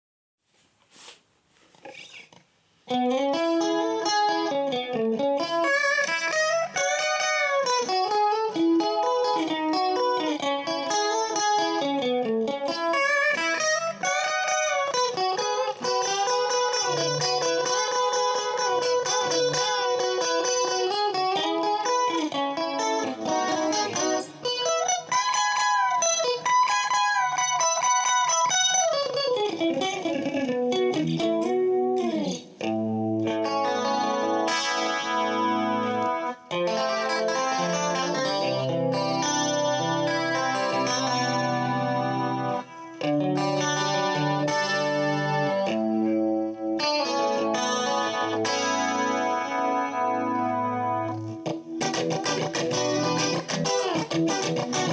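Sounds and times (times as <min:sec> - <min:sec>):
clean electric guitar melody: 0:02.9 - 0:54.9.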